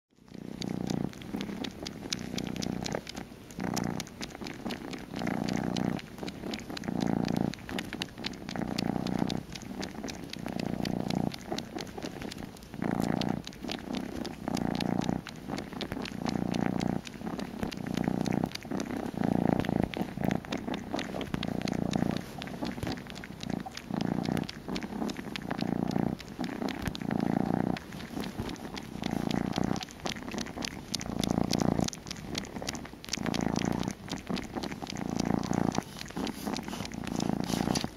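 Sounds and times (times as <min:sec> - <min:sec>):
kitten purring loudly: 0:00.2 - 0:37.9
kitten suckling clicks: 0:00.2 - 0:37.9.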